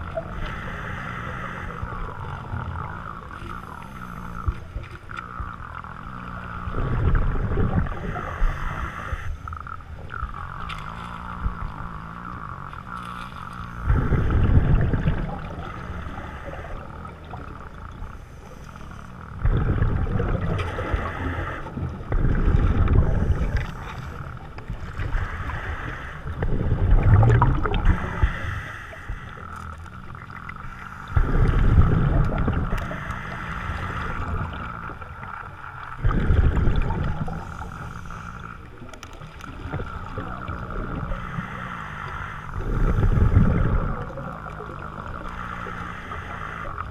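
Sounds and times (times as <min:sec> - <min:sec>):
exhaled bubbles rumbling underwater: 0:00.0 - 0:46.9.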